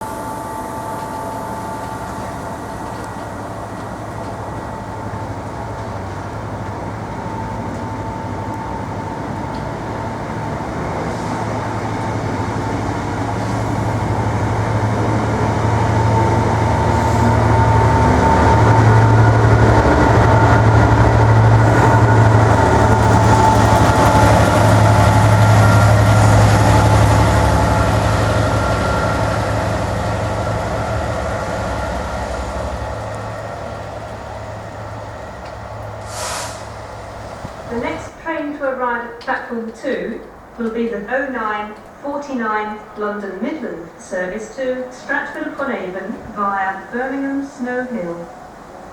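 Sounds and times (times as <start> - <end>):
diesel train passing: 0.0 - 48.9.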